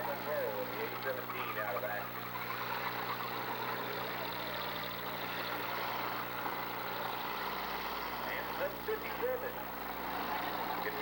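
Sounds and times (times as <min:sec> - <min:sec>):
car engines running together: 0:00.0 - 0:11.0.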